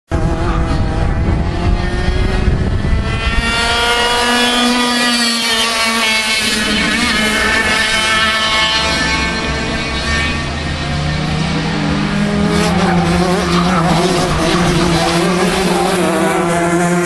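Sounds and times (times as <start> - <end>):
kart engine buzzing at high revs: 0.1 - 17.0.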